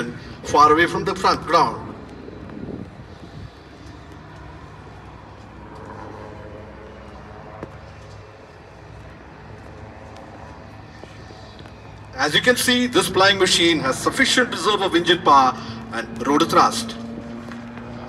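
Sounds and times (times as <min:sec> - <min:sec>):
distant helicopter drone: 0:00.0 - 0:18.0.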